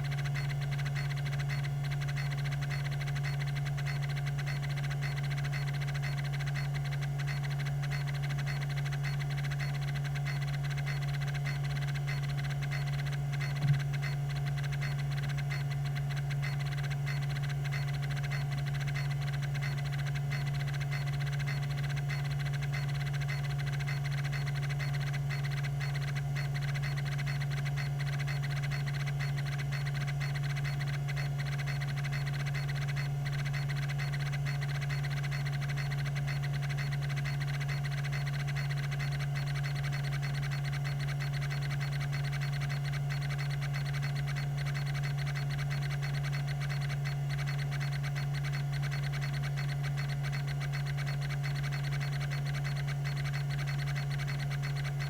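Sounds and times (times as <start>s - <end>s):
faint ticks: 0.0s - 55.0s
hard drive humming and whining: 0.0s - 55.0s.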